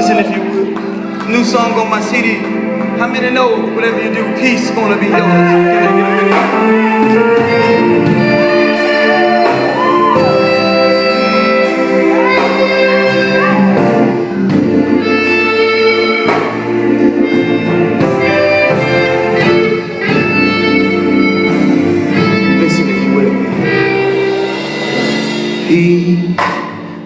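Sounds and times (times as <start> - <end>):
gospel band playing: 0.0 - 27.0.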